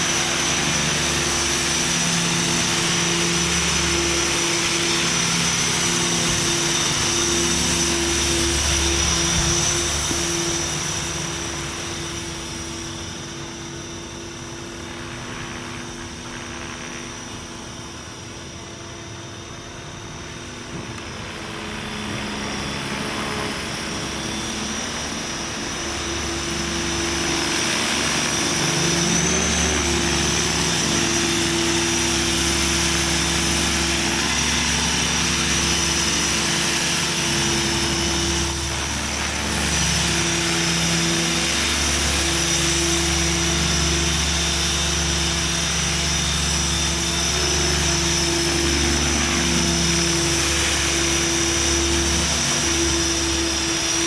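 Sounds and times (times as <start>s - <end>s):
high motor whine: 0.0s - 54.0s
rc helicopter rotor buzz: 0.0s - 54.0s.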